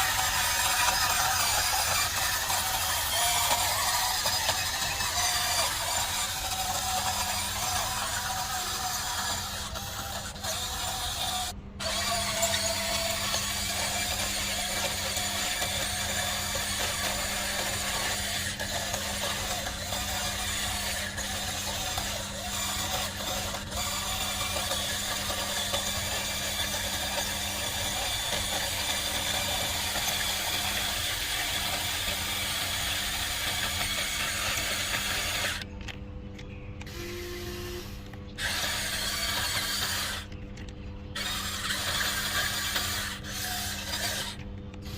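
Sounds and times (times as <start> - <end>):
toy motors grinding and whirring: 0.0 - 44.9.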